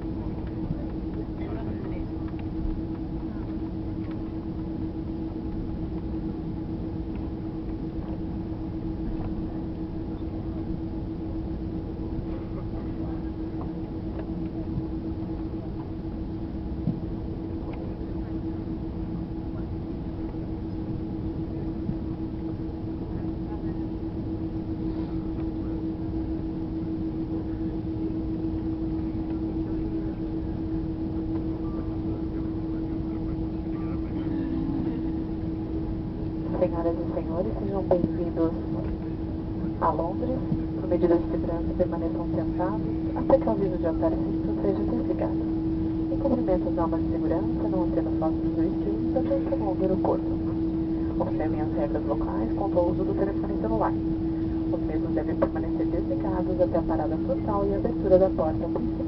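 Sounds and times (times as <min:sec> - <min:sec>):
airplane cabin engine rumble: 0:00.0 - 0:59.0
constant hum: 0:00.0 - 0:59.0.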